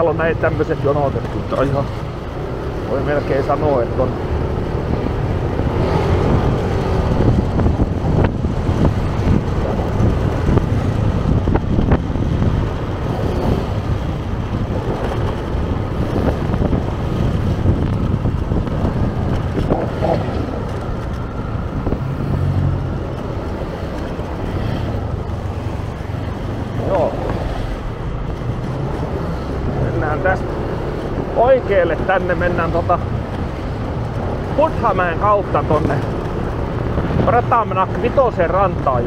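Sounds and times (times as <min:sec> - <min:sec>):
street traffic: 0:00.0 - 0:39.0
wind buffeting microphone: 0:00.0 - 0:39.0.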